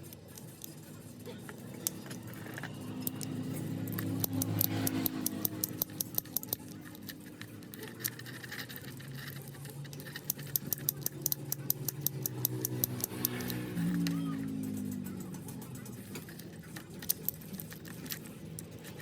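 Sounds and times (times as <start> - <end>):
keys clicking and rattling: 0.0 - 19.0.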